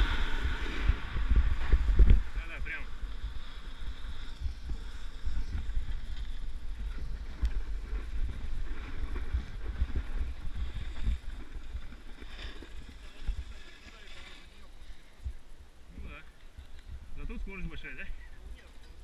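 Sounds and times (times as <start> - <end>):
wind buffeting microphone: 0.0 - 13.8, 15.2 - 19.0.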